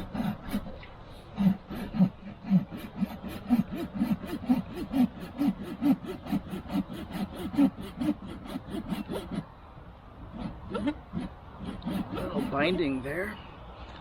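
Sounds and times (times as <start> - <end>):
pull saw cutting branch: 0.0 - 9.5, 10.3 - 13.0.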